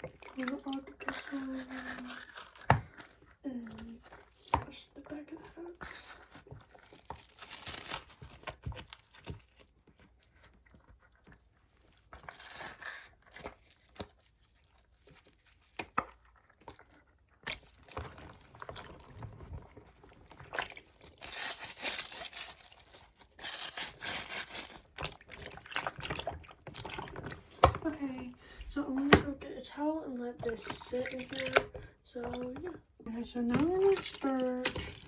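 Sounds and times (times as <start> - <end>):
water sloshing and splashing: 0.0 - 35.0.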